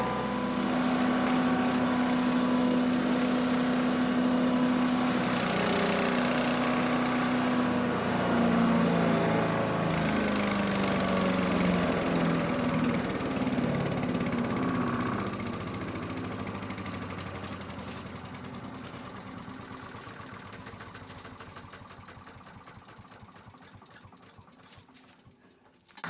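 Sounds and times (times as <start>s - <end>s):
small gas engine winding down: 0.0s - 25.4s.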